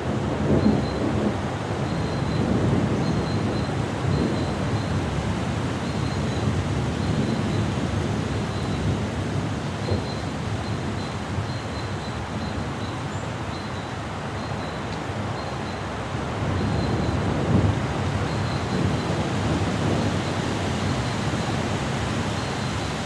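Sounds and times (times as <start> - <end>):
wind blowing with low rumble: 0.0 - 23.0.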